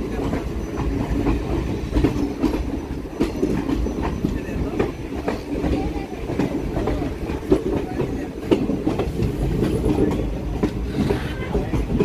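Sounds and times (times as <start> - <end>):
train wheels rumbling on track: 0.0 - 12.0
wheels clicking over rail joints: 0.0 - 12.0.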